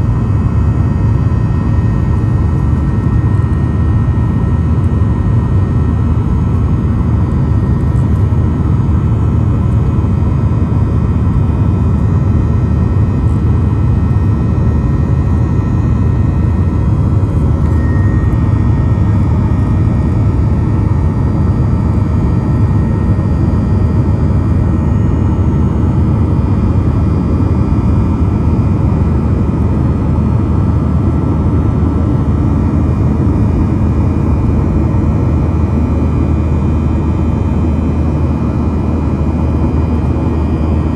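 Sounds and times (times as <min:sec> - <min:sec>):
jet engines rumbling and whining: 0:00.0 - 0:40.9.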